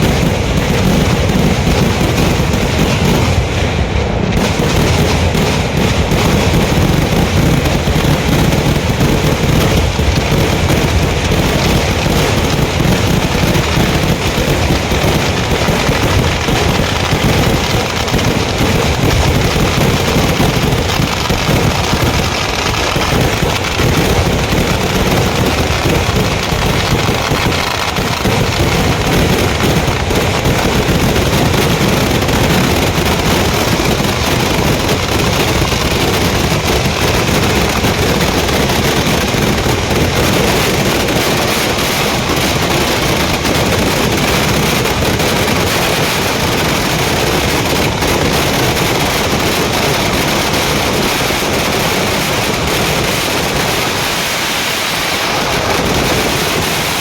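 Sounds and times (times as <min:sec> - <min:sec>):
rapid firecracker barrage: 0:00.0 - 0:57.0.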